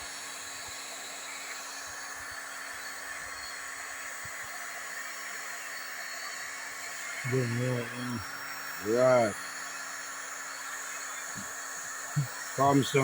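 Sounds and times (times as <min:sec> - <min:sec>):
hot-air welding gun hissing: 0:00.0 - 0:13.0.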